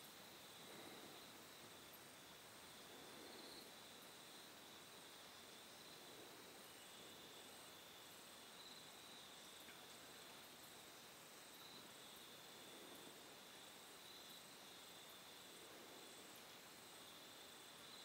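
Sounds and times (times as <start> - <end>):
faint insect chorus: 0.0 - 18.0
outdoor background hiss: 0.0 - 18.0.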